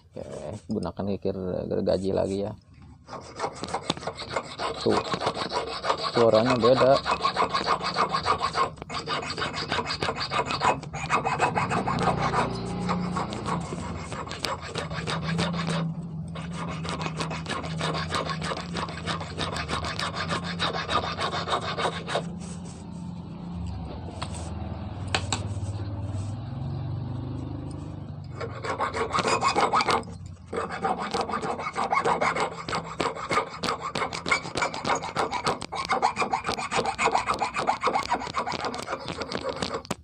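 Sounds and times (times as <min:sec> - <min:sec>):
file rasping on metal rod: 0:01.8 - 0:22.8, 0:27.9 - 0:40.0.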